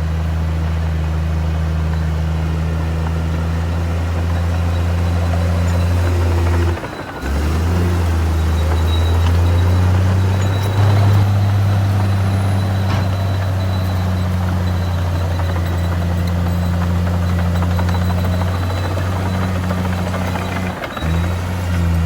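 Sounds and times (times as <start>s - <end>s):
diesel machinery engine drone: 0.0s - 22.0s.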